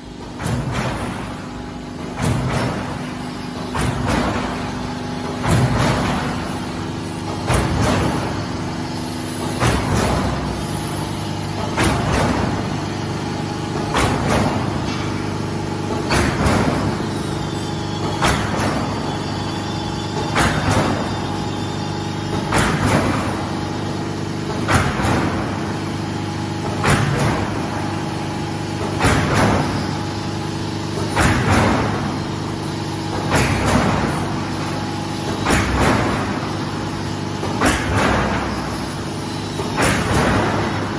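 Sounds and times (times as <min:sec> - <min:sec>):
machine motor hum: 0:00.0 - 0:40.9
sharp bursts of machine noise: 0:00.0 - 0:40.9.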